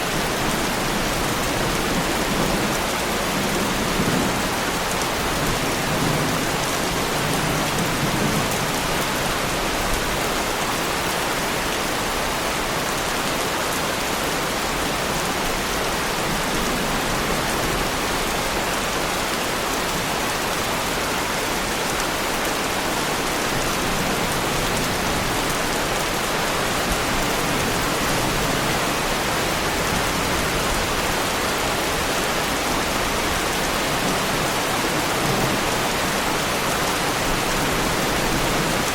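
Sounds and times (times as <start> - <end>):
heavy rain falling on a car: 0.0 - 38.9.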